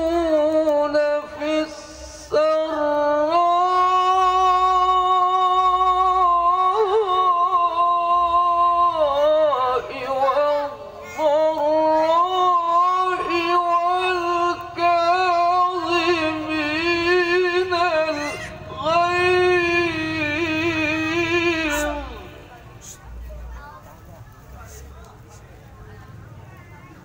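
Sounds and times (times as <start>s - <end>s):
man chanting into microphone: 0.0s - 22.8s.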